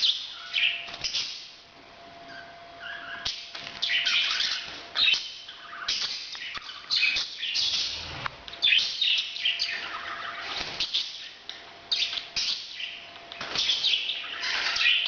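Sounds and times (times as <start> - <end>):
parrots chirping and chattering: 0.0 - 1.6, 2.3 - 15.0.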